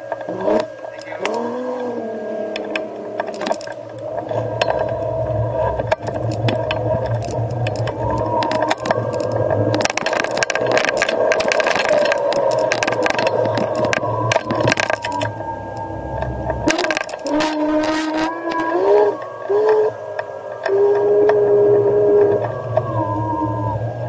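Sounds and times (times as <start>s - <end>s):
electric motor whine: 0.0s - 24.0s
scooter rattling: 0.0s - 24.0s
tyres rumbling over ridges: 0.0s - 24.0s
clicks and knocks: 0.1s - 5.1s, 5.7s - 21.4s.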